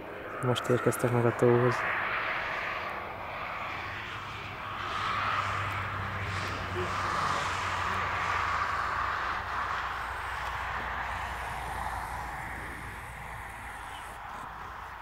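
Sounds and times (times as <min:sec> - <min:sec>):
cranes calling: 0:00.1 - 0:15.0.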